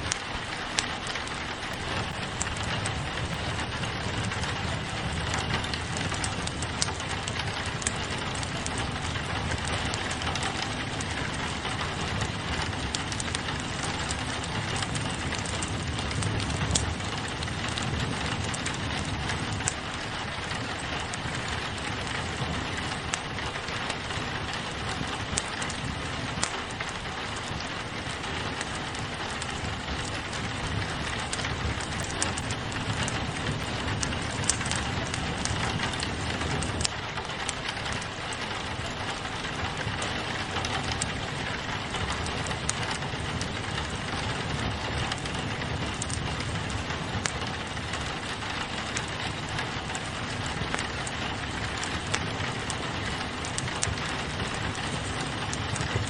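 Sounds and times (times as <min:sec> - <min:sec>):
rain on a window: 0:00.0 - 0:56.0
wood fire crackling: 0:00.0 - 0:56.0.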